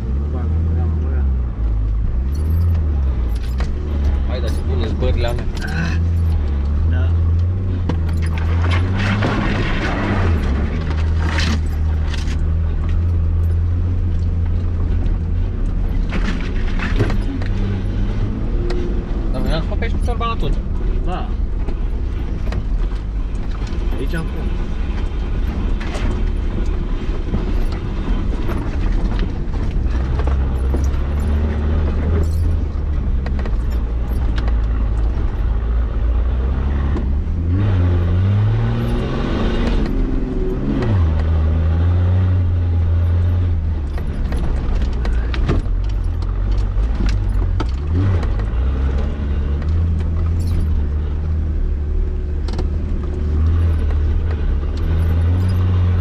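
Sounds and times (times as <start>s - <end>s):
vehicle engine revving: 0.0s - 56.0s
vehicle rattles and knocks: 1.4s - 56.0s.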